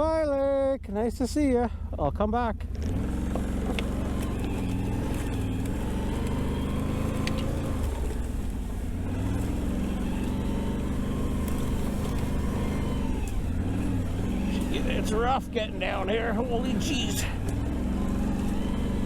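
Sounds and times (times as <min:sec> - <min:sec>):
atv engine revving: 0:01.1 - 0:19.0.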